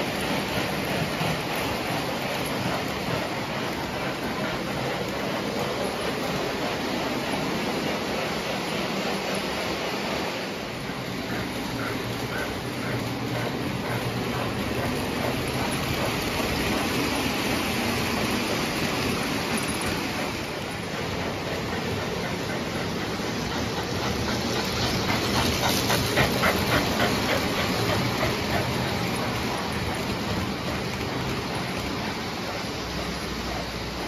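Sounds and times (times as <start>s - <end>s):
model train rolling and hissing: 0.0s - 34.0s
train wheel clicks: 0.0s - 34.0s.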